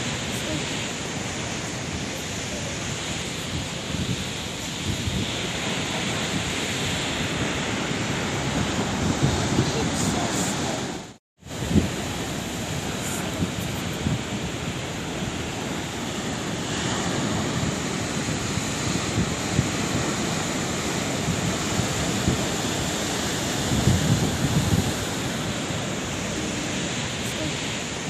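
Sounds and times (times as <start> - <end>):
breaking surf rumbling: 0.0 - 28.0
sea waves washing onto shore: 0.0 - 28.0.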